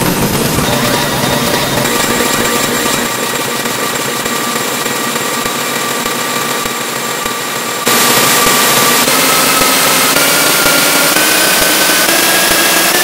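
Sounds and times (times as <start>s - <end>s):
distorted electronic noise: 0.0s - 6.6s, 7.8s - 13.0s
steady electronic tones: 0.0s - 6.7s, 7.7s - 13.0s.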